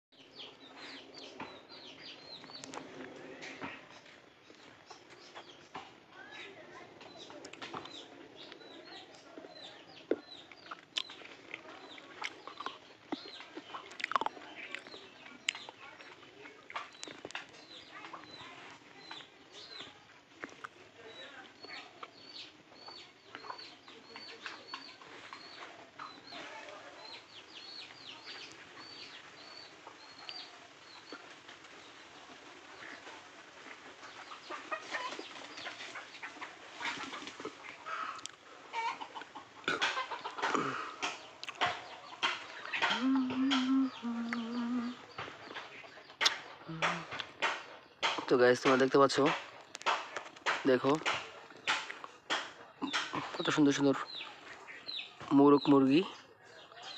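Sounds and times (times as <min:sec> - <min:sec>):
chickens clucking: 0:00.2 - 0:56.9.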